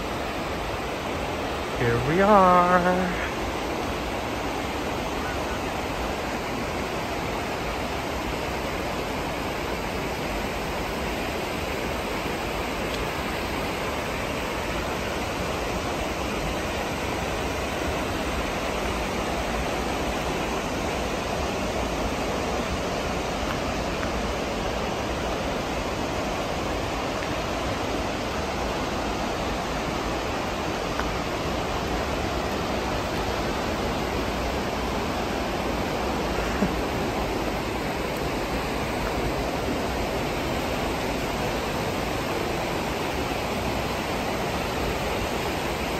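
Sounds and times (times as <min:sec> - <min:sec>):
creek and waterfall rushing: 0:00.0 - 0:45.9.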